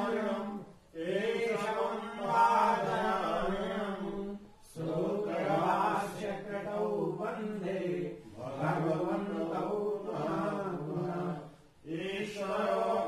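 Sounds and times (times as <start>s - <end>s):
chanting mantras: 0.0s - 13.0s.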